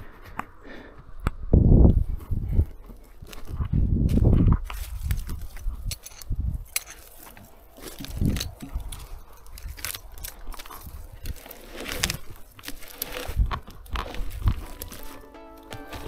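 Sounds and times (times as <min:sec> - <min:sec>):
wood being handled: 0:00.0 - 0:16.0.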